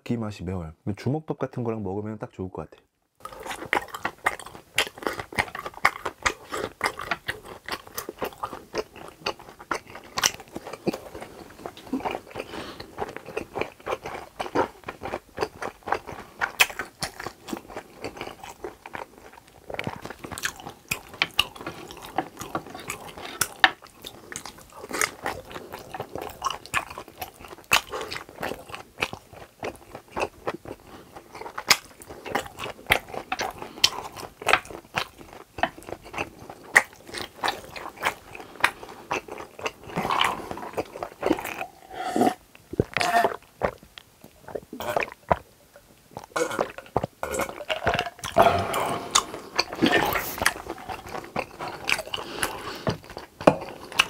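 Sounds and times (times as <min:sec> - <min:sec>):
person chewing crunchy food: 0:03.2 - 0:54.0.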